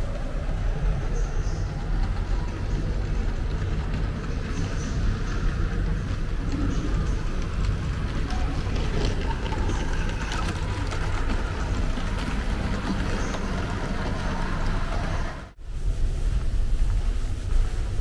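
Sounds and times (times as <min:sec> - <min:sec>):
model train rumbling on rails: 0:00.0 - 0:18.0.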